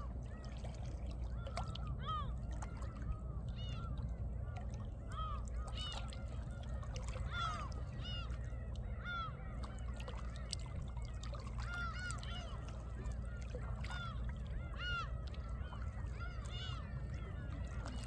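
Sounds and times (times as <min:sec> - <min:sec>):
water lapping among rocks: 0:00.0 - 0:18.0.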